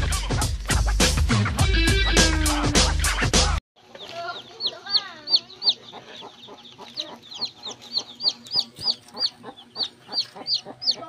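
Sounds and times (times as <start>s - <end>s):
chicks peeping: 1.6s - 11.0s
hen clucking: 1.6s - 11.0s.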